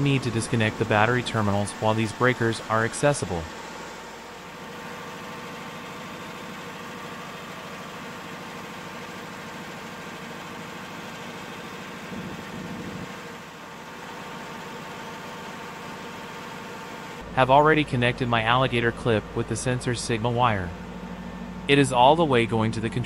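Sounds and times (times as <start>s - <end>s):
diesel generator droning: 0.0s - 23.0s.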